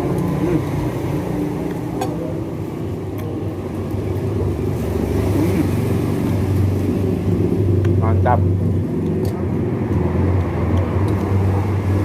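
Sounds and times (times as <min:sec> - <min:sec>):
passing vehicle engines rumbling: 0:00.0 - 0:12.0.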